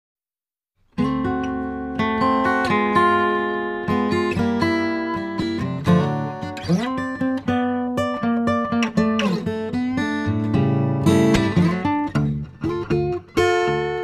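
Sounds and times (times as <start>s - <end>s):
acoustic guitar playing: 0.8s - 14.0s.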